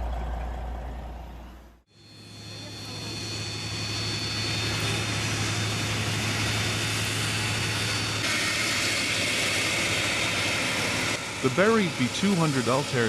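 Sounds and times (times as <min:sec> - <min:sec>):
heavy engine running: 0:00.0 - 0:13.0.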